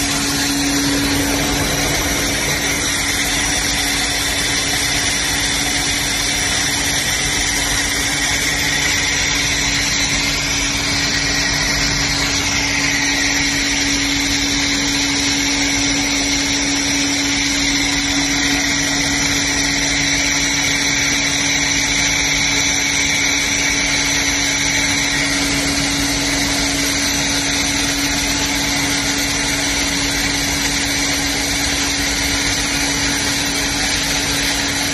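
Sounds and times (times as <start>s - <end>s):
high-pitched whines of rollers: 0.0s - 34.9s
machine motor hum: 0.0s - 34.9s.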